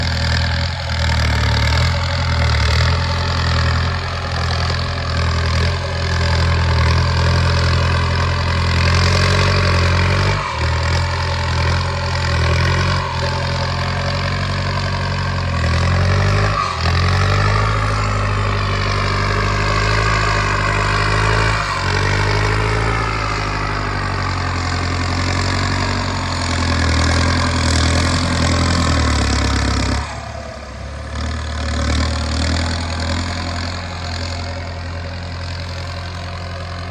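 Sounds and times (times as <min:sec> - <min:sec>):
tractor diesel engine under load: 0:00.0 - 0:36.9.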